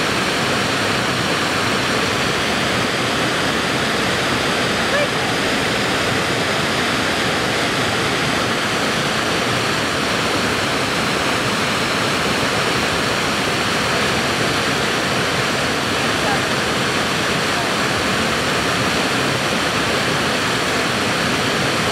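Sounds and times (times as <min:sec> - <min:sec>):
water pouring over waterfall: 0:00.0 - 0:21.9.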